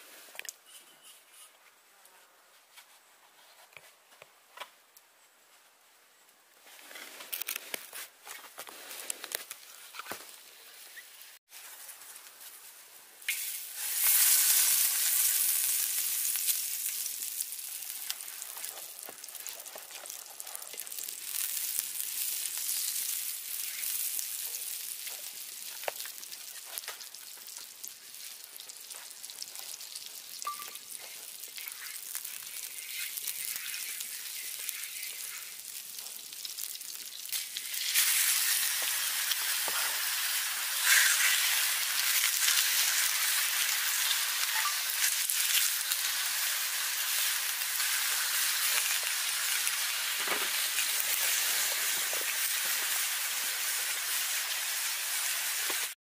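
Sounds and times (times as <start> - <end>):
fat sizzling in a pan: 8.8 - 56.0.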